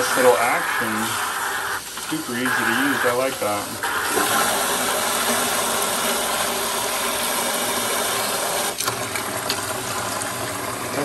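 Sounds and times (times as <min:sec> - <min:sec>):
faucet spray into plastic bucket: 0:00.0 - 0:08.9.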